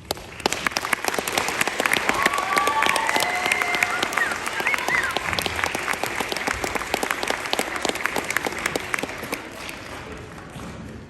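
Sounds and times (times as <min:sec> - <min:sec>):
audience applause: 0:00.0 - 0:10.5.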